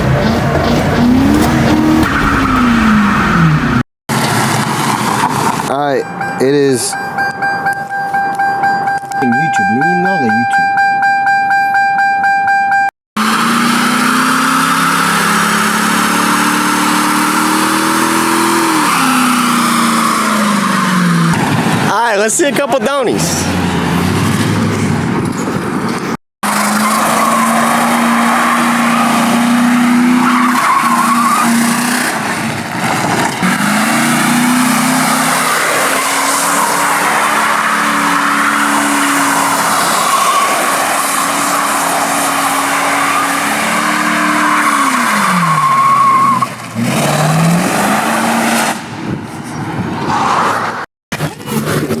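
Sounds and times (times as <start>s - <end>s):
car engine revving: 0.0s - 10.7s, 13.2s - 22.0s, 23.1s - 52.0s
tires squealing: 0.0s - 10.7s, 13.2s - 52.0s.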